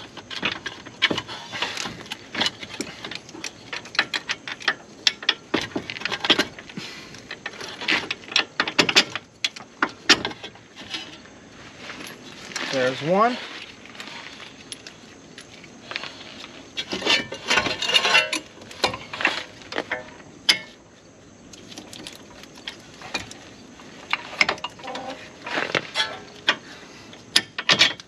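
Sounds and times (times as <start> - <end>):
metal clinks and knocks: 0.0 - 6.7, 7.3 - 12.7, 16.8 - 20.8, 21.6 - 28.0.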